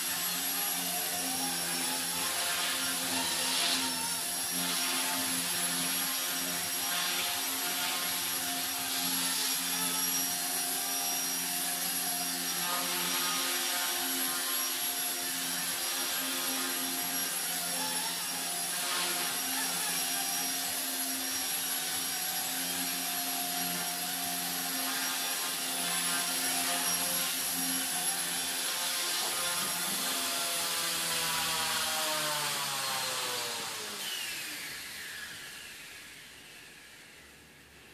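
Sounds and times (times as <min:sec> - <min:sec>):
rc helicopter rotor whine: 0:00.0 - 0:37.7.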